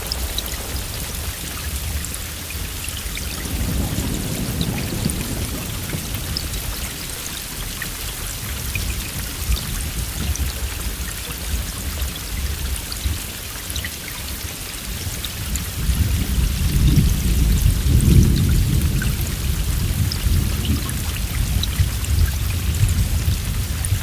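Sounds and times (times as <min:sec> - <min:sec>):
low roll of thunder: 0:00.0 - 0:11.0, 0:15.5 - 0:24.0
heavy rain: 0:00.0 - 0:24.0
raindrops ticking: 0:00.0 - 0:24.0.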